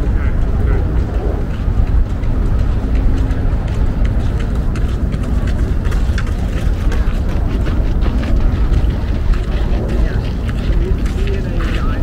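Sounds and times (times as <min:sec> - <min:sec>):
footsteps on gravel: 0:00.0 - 0:12.0
wind buffeting microphone: 0:00.0 - 0:12.0.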